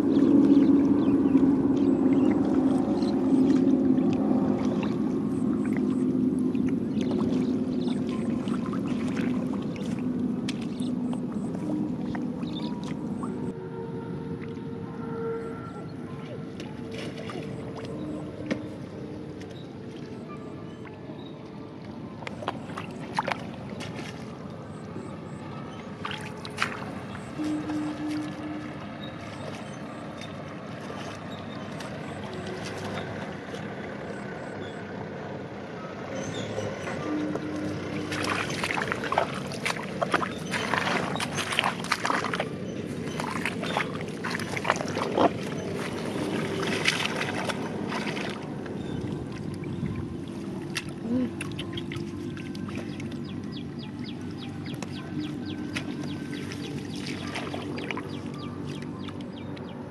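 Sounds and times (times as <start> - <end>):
water splashing: 0.0 - 35.2, 36.2 - 59.9.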